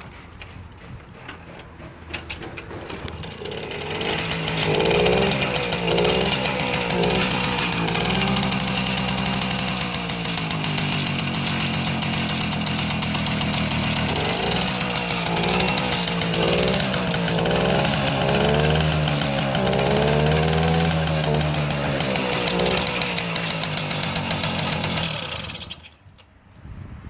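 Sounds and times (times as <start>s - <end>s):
moped engine buzzing idle: 2.9s - 26.0s.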